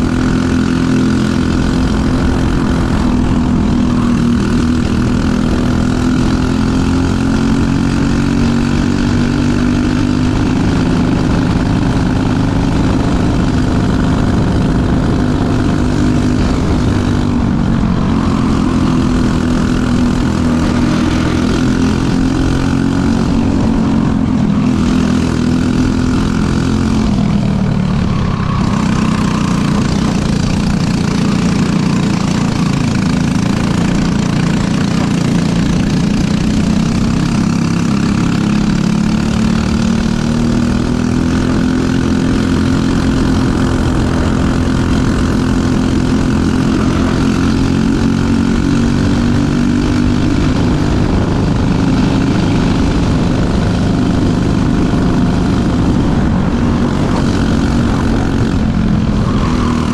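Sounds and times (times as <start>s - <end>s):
kart engine at racing speed: 0.0s - 59.9s.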